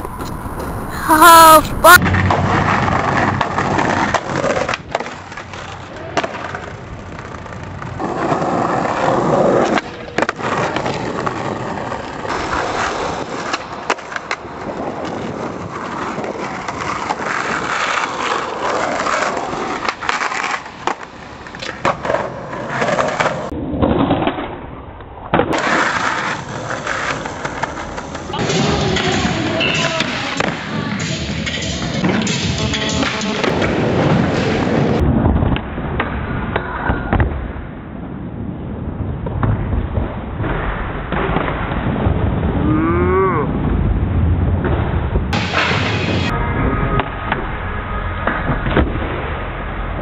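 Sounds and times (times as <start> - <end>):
skateboard wheels rolling on concrete: 0.0 - 50.0
skateboard pops and landings: 2.0 - 37.9, 39.0 - 42.6, 46.9 - 50.0.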